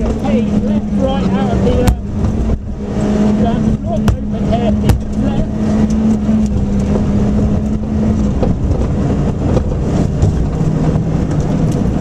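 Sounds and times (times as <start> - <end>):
car engine running hard: 0.0 - 12.0
road and tyre noise: 0.0 - 12.0.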